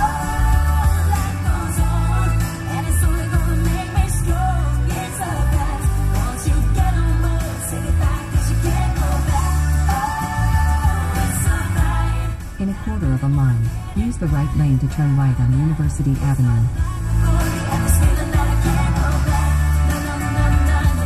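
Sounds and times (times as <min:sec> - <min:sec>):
heavy pulsing bass: 0:00.0 - 0:21.0
pop music with singing: 0:00.0 - 0:21.0.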